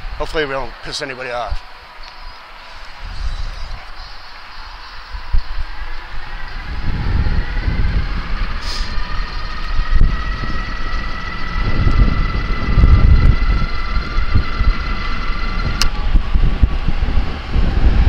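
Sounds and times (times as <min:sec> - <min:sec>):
wind buffeting microphone: 0:00.0 - 0:18.0
electric bike motor whining: 0:01.6 - 0:18.0.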